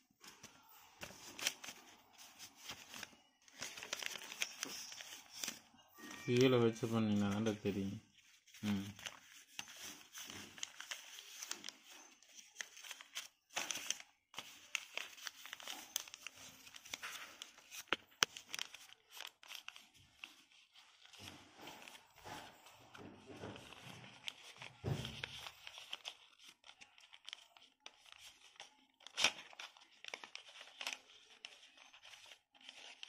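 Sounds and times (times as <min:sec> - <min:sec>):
paper crinkling and rustling: 0:00.0 - 0:33.0
sharp paper crack: 0:00.2 - 0:05.6, 0:06.3 - 0:22.0, 0:23.6 - 0:33.0.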